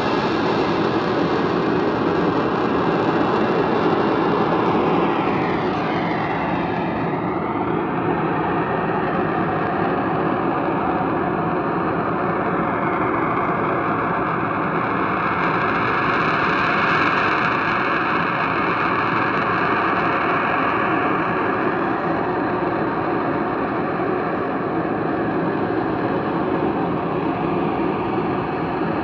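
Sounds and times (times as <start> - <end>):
distorted droning roar: 0.0 - 29.0.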